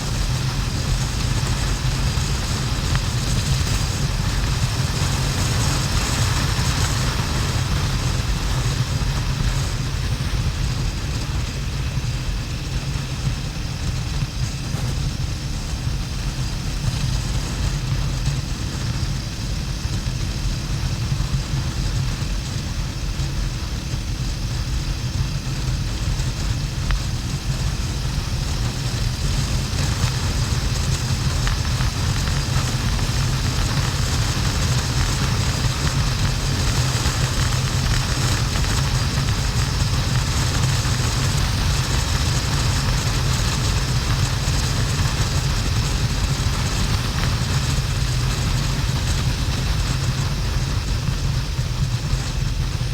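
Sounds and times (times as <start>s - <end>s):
motorcycle engine running: 0.0s - 52.9s
wind rush on microphone: 0.0s - 52.9s.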